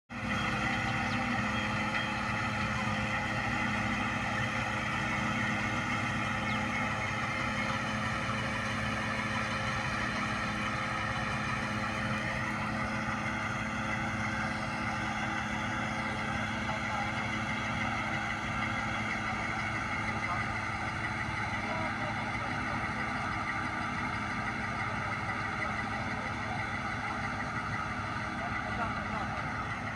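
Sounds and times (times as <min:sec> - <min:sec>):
tractor engine running: 0:00.1 - 0:29.9.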